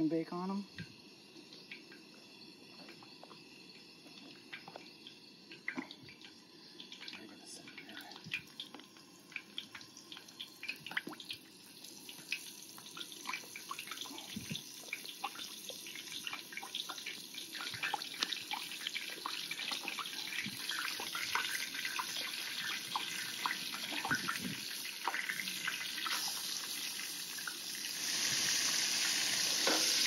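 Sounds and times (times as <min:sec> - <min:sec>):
clams frying in hot oil: 0:00.0 - 0:30.0.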